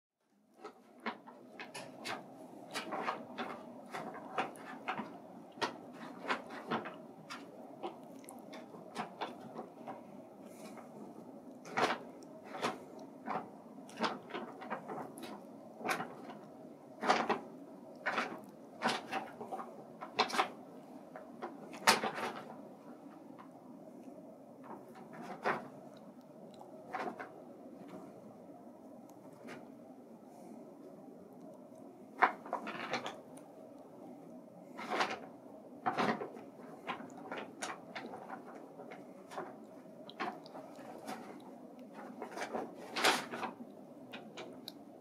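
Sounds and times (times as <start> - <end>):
paper bag crinkling and rustling: 0.6 - 23.6, 24.6 - 28.0, 32.2 - 33.6, 34.7 - 45.0.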